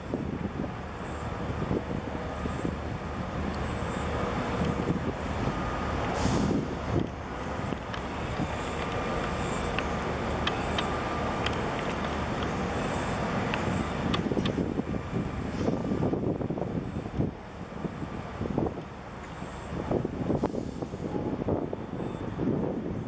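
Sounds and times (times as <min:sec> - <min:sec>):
distant engines rumbling: 0:00.0 - 0:23.0.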